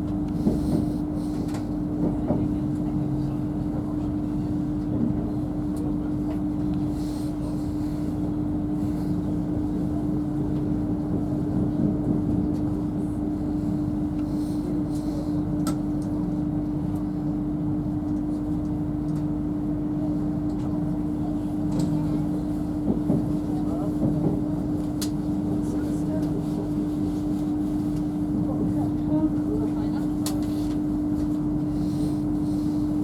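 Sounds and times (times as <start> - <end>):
train cabin hum and rumble: 0.0 - 33.0.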